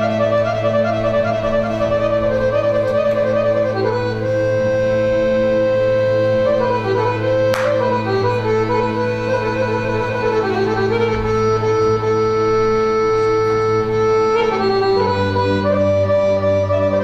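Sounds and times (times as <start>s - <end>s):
folk instrumental melody: 0.0s - 17.0s
steady low drone: 0.0s - 17.0s.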